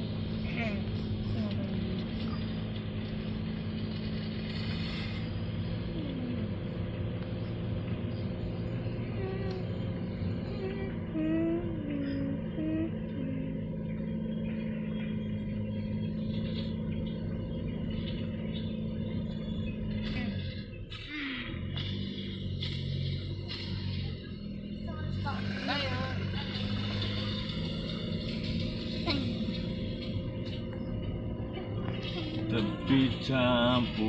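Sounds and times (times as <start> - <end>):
car engine running: 0.0 - 34.0
road noise: 0.0 - 34.0.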